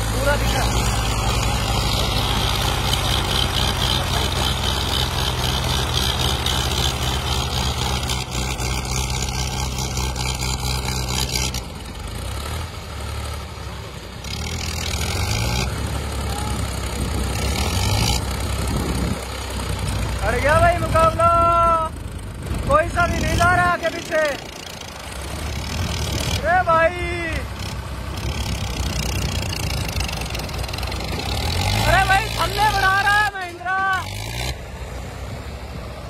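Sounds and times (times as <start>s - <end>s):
diesel tractors running under load: 0.0s - 36.0s.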